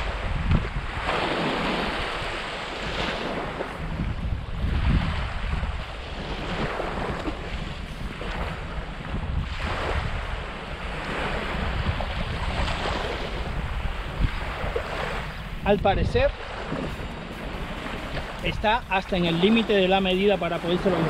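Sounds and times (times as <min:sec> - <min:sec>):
small waves washing on shore: 0:00.0 - 0:21.0
wind buffeting microphone: 0:00.0 - 0:21.0.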